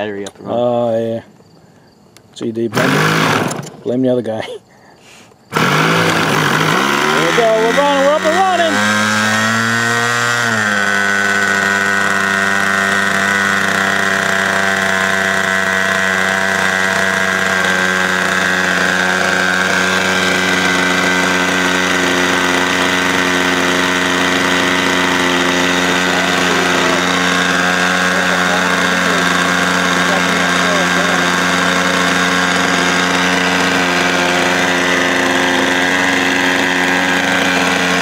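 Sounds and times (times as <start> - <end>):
model airplane engine buzzing: 2.6 - 3.9, 5.5 - 38.0.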